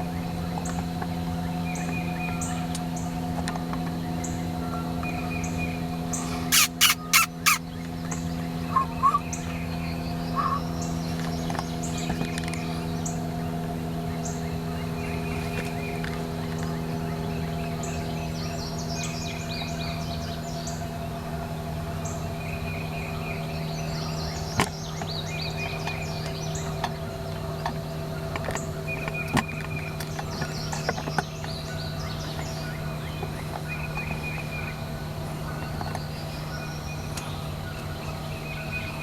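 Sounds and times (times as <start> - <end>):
songbirds chirping and trilling: 0.0 - 39.0.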